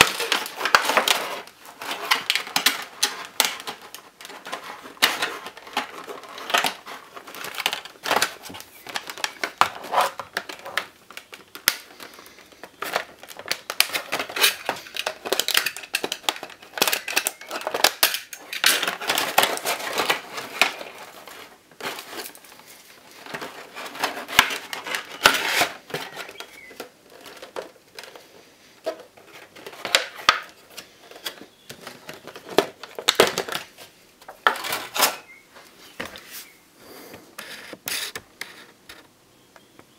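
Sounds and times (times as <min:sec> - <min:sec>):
plastic packaging crinkling: 0:00.0 - 0:36.5.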